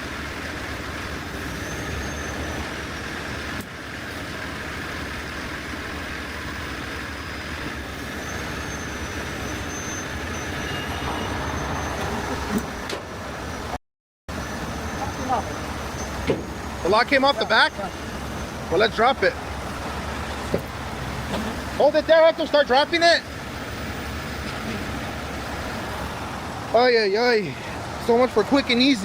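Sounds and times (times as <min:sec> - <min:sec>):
tow truck engine running: 0:00.0 - 0:29.0.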